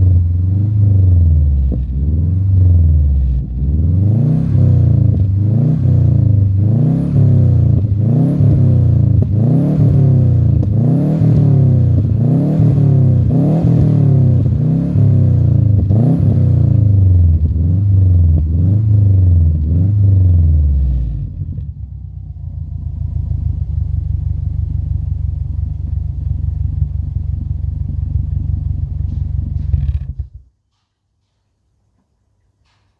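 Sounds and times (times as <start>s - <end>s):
car engine revving and idling: 0.0s - 30.4s.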